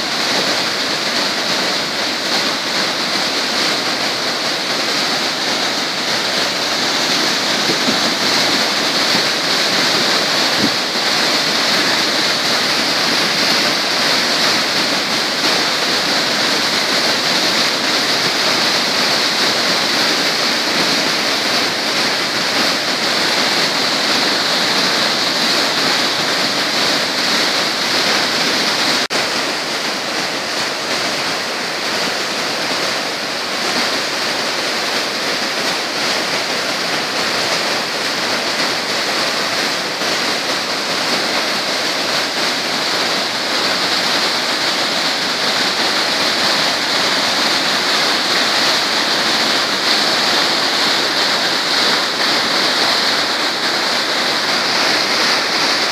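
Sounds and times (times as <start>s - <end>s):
river water rushing through rapids: 0.0s - 55.9s.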